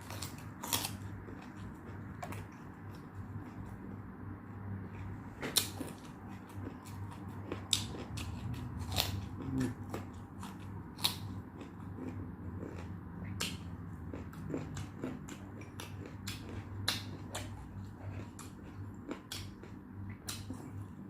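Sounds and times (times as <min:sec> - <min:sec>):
person chewing: 0:00.0 - 0:04.0, 0:04.7 - 0:21.0.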